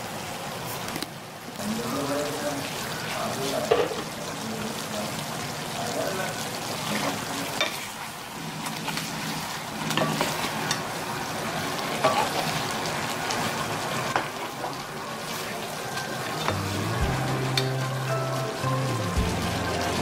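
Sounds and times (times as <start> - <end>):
curry sizzling in a pan: 0.0 - 20.0.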